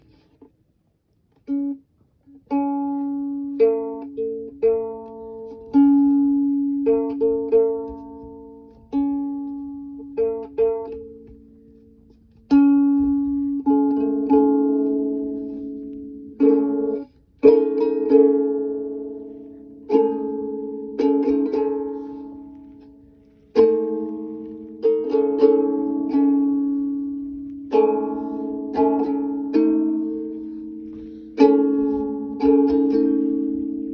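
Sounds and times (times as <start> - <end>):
chords strummed on string instrument: 1.3 - 33.9.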